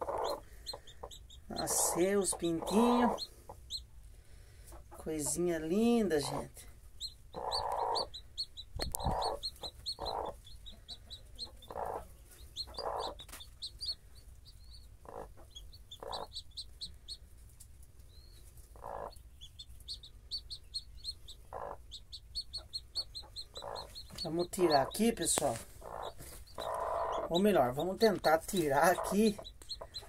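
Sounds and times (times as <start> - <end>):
chicks peeping: 0.0 - 30.0
hen clucking: 0.0 - 30.0.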